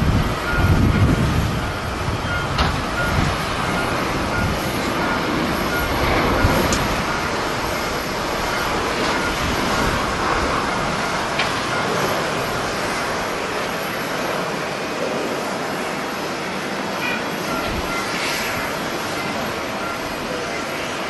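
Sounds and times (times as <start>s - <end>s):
jet engines roaring: 0.0s - 21.0s
wind buffeting microphone: 0.0s - 21.0s.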